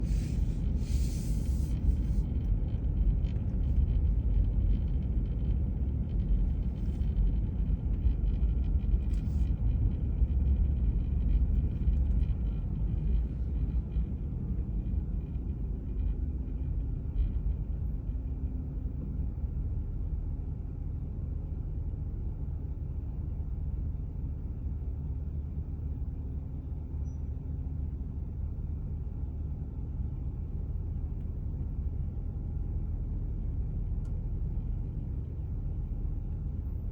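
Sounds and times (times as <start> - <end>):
low engine rumble: 0.0 - 36.9.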